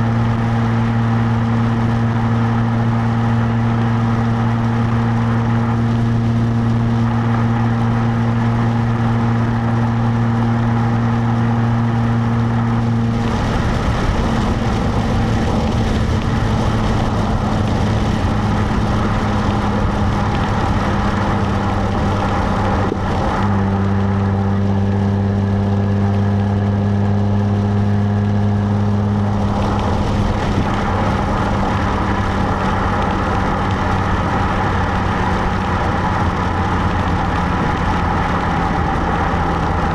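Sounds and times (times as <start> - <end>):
car exhaust while driving: 0.0 - 39.9
road and tyre noise: 0.0 - 39.9.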